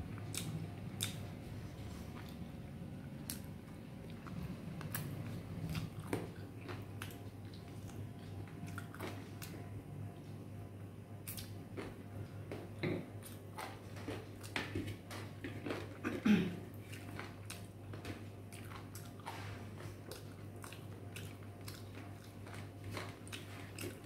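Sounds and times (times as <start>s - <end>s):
steady low hum: 0.0s - 24.0s
person chewing chicken: 0.2s - 2.6s, 3.2s - 9.6s, 11.2s - 24.0s.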